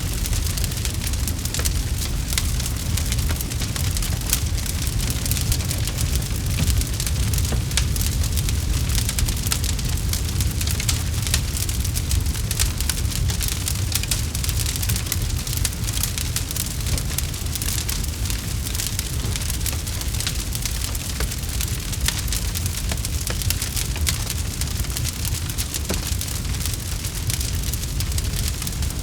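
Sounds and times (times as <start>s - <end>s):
campfire crackling and popping: 0.0s - 29.0s
low rumble of fire: 0.0s - 29.0s.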